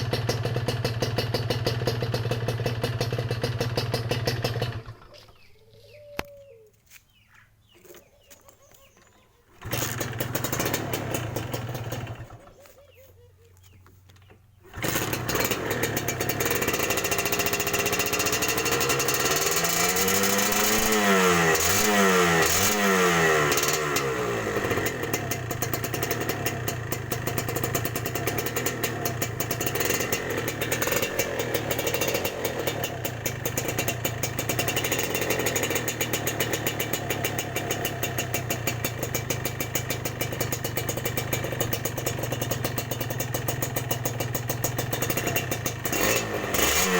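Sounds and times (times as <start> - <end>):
motorcycle engine revving and idling: 0.0 - 5.4, 9.6 - 12.8, 13.6 - 46.9.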